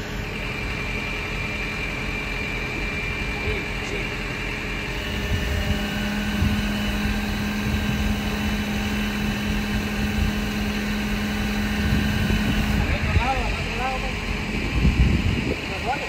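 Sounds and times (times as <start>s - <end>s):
steady hum: 0.0s - 16.0s
truck engine rumble: 0.0s - 16.0s.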